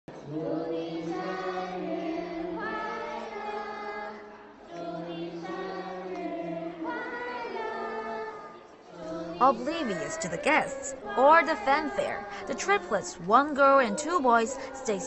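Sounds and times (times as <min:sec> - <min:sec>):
group singing long notes: 0:00.1 - 0:15.0.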